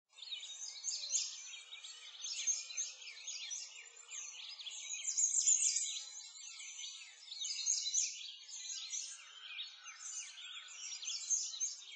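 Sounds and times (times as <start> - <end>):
birds chirping in chorus: 0.1 - 11.9.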